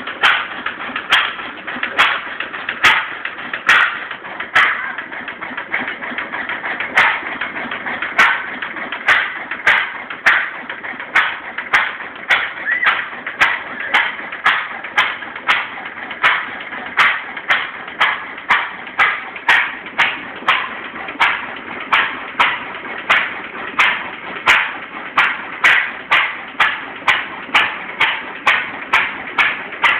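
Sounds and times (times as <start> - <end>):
stationary engine running slowly: 0.0 - 29.9.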